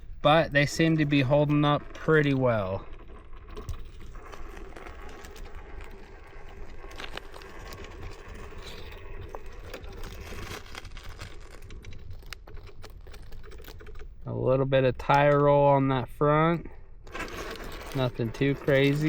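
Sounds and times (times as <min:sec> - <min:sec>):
tires scraping on stone: 0:00.0 - 0:19.0.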